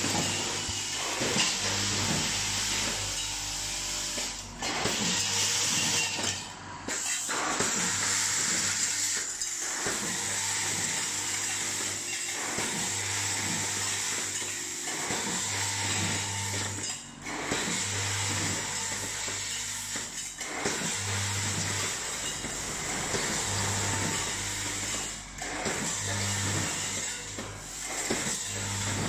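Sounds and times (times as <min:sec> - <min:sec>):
metal parts rattling in feeders: 0:04.4 - 0:29.0.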